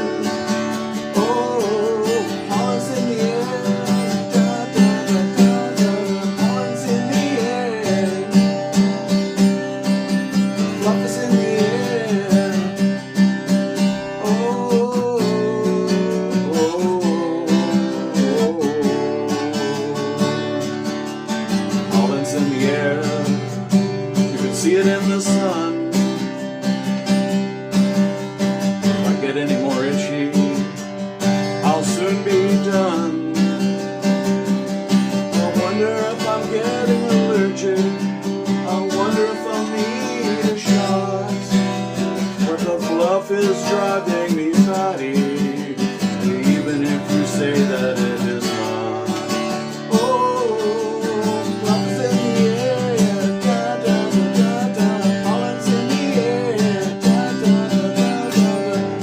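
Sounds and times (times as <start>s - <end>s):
instrumental pop music: 0.0s - 59.0s.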